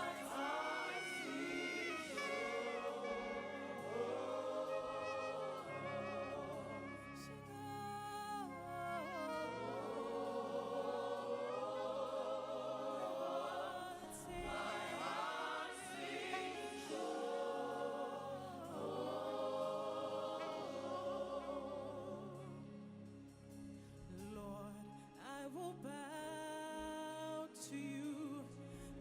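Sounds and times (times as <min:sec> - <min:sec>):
choir and congregation singing: 0:00.0 - 0:23.4
soft instrumental accompaniment: 0:00.0 - 0:29.0.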